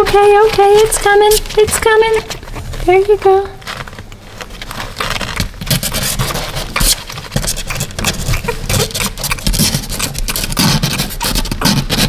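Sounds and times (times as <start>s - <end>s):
puppy paws scratching box: 0.0s - 12.0s.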